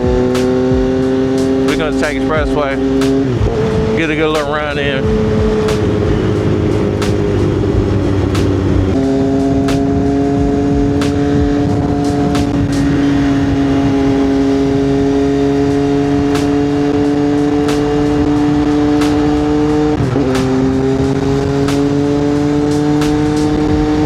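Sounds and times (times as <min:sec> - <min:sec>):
motorcycle engine and exhaust: 0:00.0 - 0:24.0.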